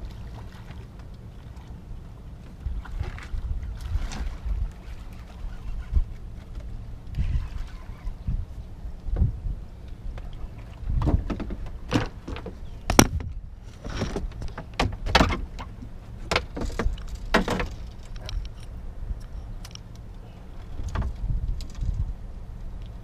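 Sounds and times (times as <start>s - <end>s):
steady low rumble: 0.0s - 23.0s
knocks and clicks in boat: 2.4s - 8.4s, 9.0s - 23.0s.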